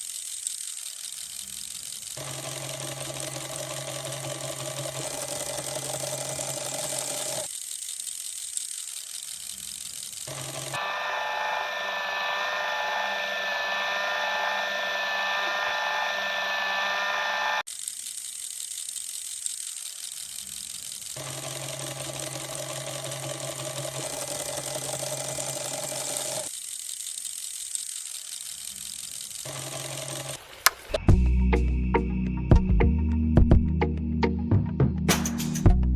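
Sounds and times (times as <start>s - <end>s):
small electric motor whirring: 0.0s - 31.1s
rough running machine: 0.0s - 31.2s.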